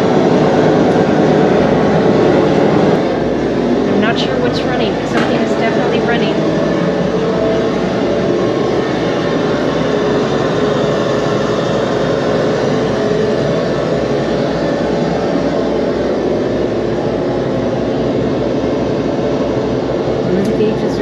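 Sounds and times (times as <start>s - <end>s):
machinery drone: 0.0s - 21.0s.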